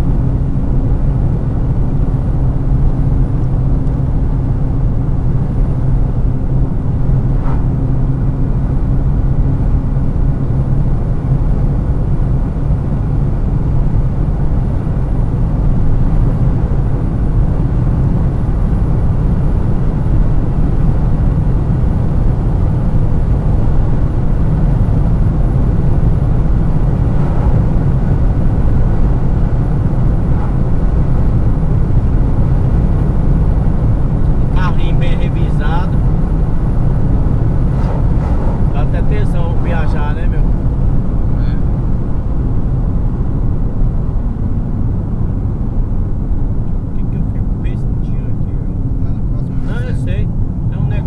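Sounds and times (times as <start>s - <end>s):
car cabin road noise: 0.0s - 51.0s.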